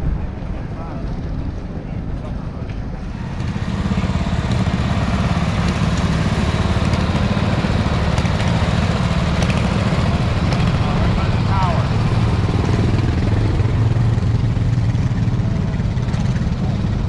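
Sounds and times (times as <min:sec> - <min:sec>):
small engines droning past: 0:00.0 - 0:17.0.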